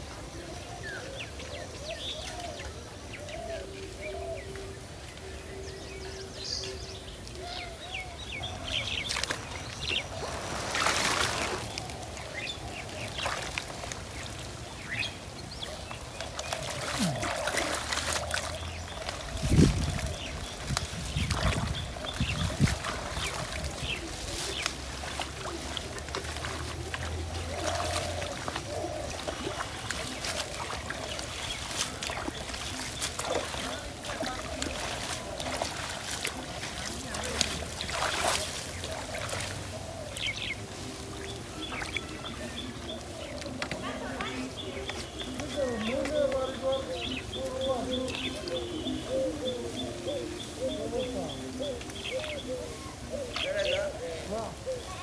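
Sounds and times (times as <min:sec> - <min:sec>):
birds chirping: 0:00.0 - 0:55.0
water sloshing and splashing: 0:07.3 - 0:55.0.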